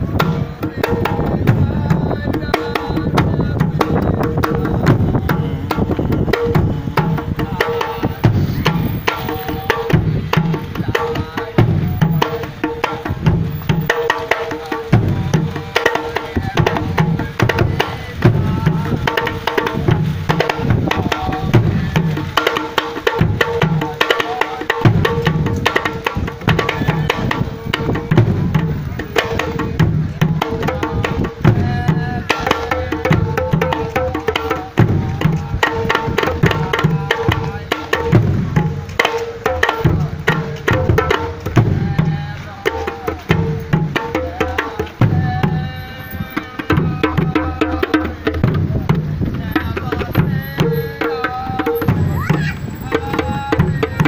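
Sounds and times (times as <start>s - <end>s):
bass drum beating: 0.0s - 14.1s, 14.8s - 22.4s, 24.8s - 45.8s, 46.7s - 54.0s
hand drum strokes: 0.0s - 54.0s.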